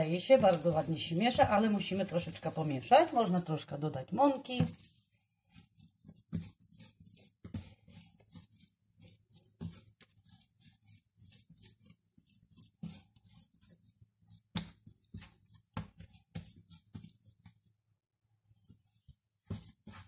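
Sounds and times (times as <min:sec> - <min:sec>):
hands kneading dough on wood: 0:00.0 - 0:20.0.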